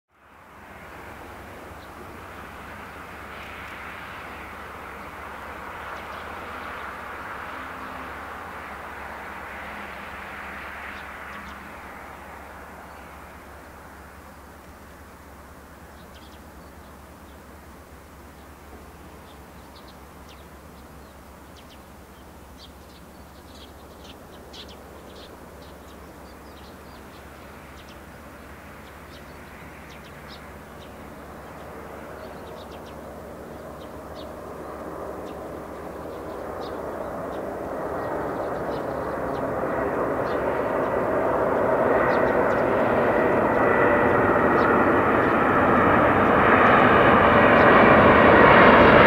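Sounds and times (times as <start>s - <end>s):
jet airplane engine noise: 0.2s - 49.0s.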